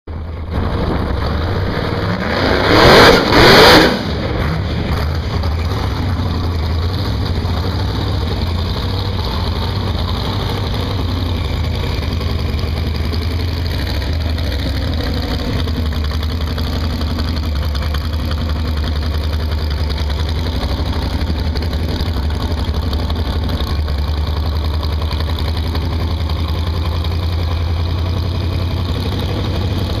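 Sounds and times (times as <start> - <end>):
car engine idling: 4.1 - 30.0.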